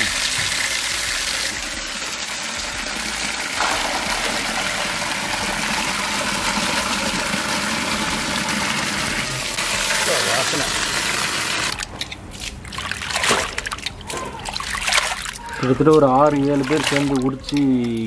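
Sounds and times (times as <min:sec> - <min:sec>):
water running into a metal pot: 0:00.0 - 0:11.8, 0:12.7 - 0:18.0.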